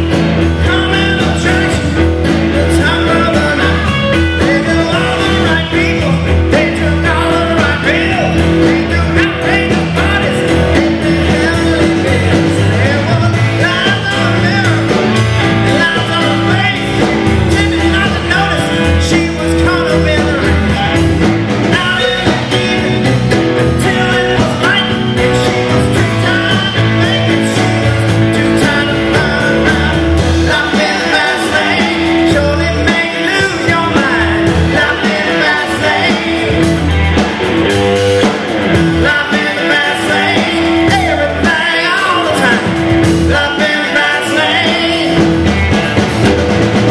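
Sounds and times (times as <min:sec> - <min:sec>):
live rock band playing: 0:00.0 - 0:46.9
man singing lead vocals: 0:00.0 - 0:46.9.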